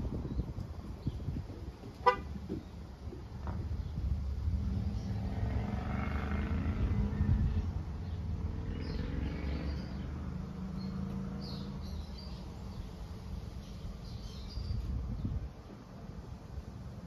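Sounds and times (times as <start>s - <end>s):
small birds chirping: 0.2s - 1.8s, 2.4s - 5.8s, 6.7s - 16.0s.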